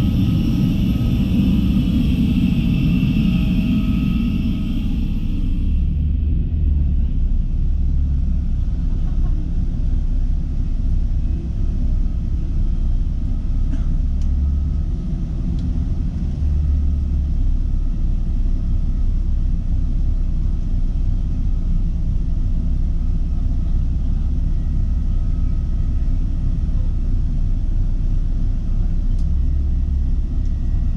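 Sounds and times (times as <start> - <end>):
airliner cabin rumble: 0.0 - 30.9
faint steady whine: 0.0 - 30.9.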